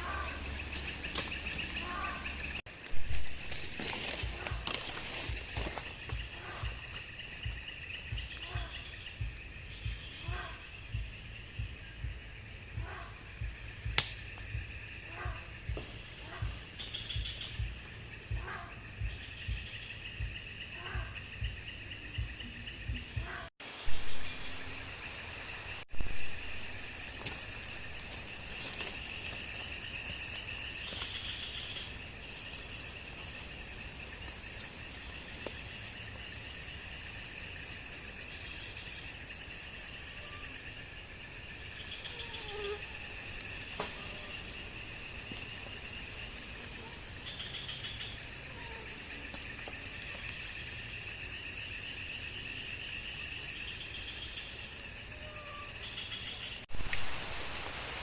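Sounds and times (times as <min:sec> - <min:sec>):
insects chirping chorus: 0:00.0 - 0:58.0.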